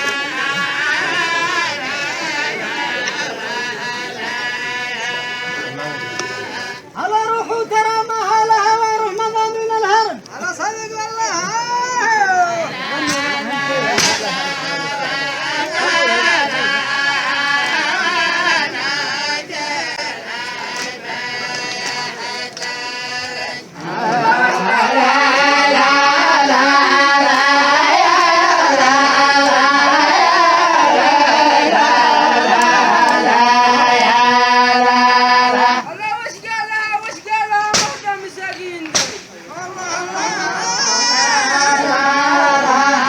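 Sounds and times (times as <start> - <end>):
group of voices chanting: 0.0 - 7.0, 11.4 - 43.0.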